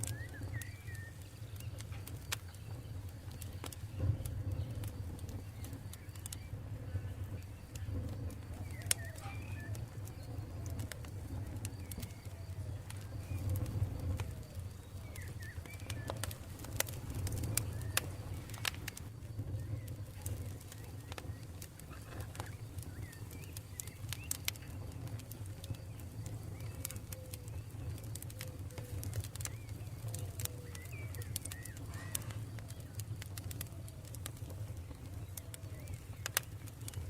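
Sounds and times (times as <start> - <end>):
campfire crackling and popping: 0.0 - 37.0
faint bird calls: 0.0 - 37.0
steady low rumble: 0.0 - 37.0.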